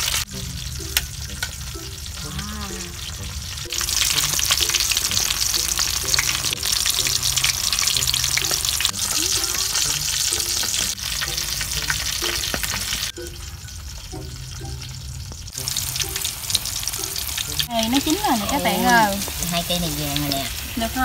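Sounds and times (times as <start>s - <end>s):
sausages frying in hot oil: 0.0s - 21.0s.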